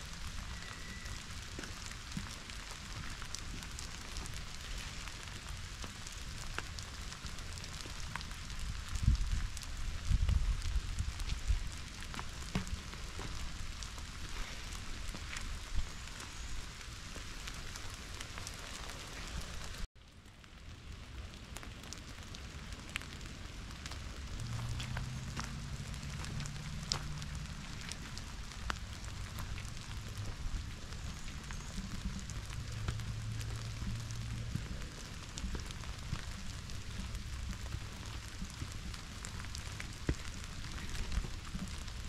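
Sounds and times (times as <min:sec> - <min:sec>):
sharp ticks of raindrops: 0:00.0 - 0:42.0
steady rain: 0:00.0 - 0:42.0.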